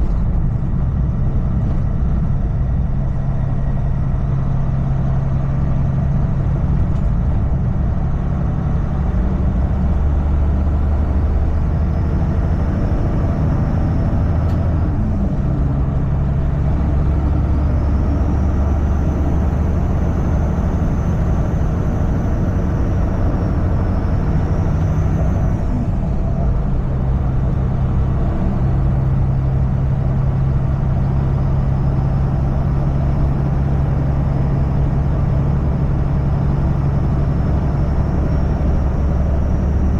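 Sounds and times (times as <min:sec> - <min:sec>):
road noise: 0:00.0 - 0:39.9
truck diesel engine drone: 0:00.0 - 0:39.9.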